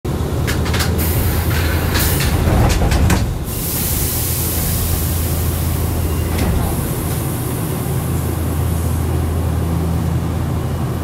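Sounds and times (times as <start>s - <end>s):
electric train low hum: 0.1s - 11.0s.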